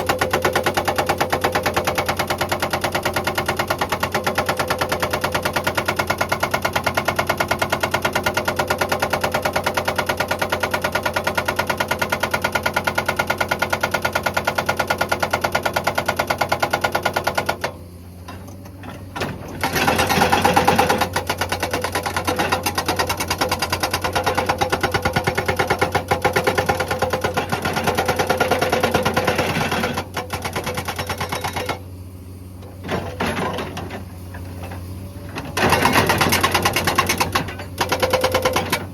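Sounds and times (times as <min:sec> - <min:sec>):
hydraulic rock breaker hammering rock: 0:00.0 - 0:31.9, 0:32.6 - 0:38.9.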